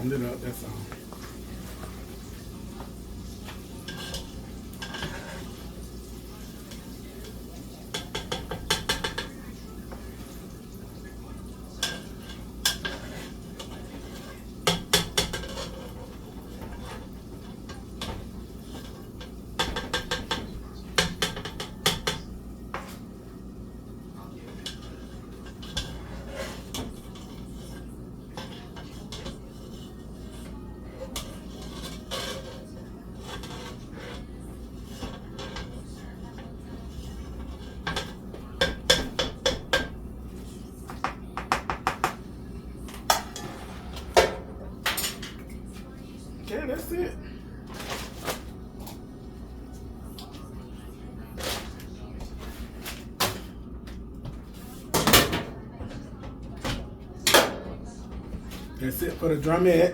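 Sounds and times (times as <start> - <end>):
utensils clattering on dishes: 0.0 - 23.4, 24.2 - 49.0, 51.4 - 59.9.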